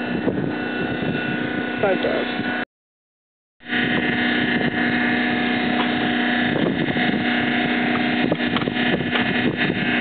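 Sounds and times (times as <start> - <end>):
wind on microphone: 0.0 - 2.6, 3.6 - 10.0
engine droning: 0.0 - 2.7, 3.6 - 10.0.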